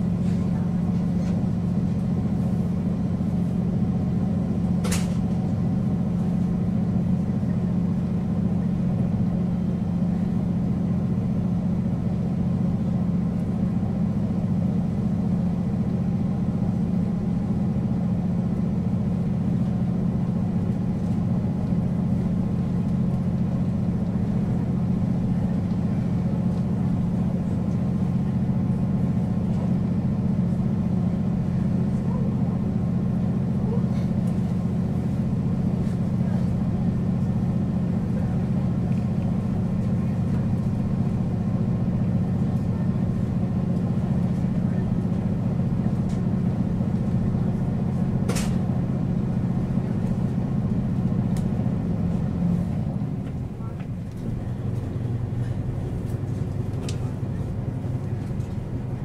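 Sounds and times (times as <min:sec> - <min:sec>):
diesel railcar engine idling: 0:00.0 - 0:59.0.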